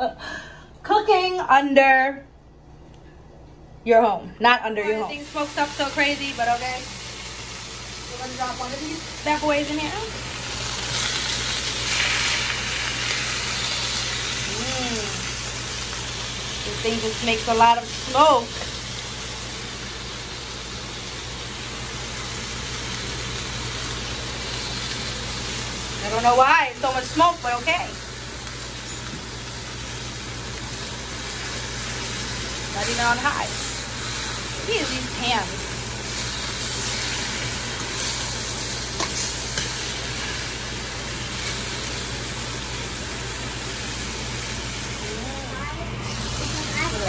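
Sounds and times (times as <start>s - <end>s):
low steady hum: 0.0s - 47.0s
steak sizzling in a skillet: 5.1s - 47.0s.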